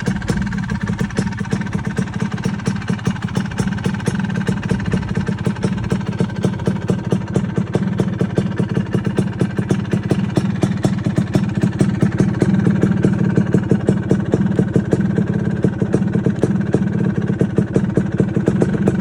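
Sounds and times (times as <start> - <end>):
scooter engine running: 0.0 - 19.0.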